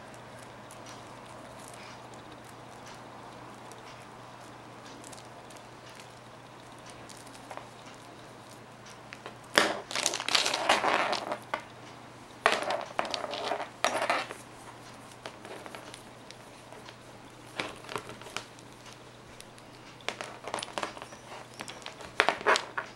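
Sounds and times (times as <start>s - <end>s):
cable rustling in hands: 0.0s - 22.9s
faint low hum: 0.0s - 22.9s.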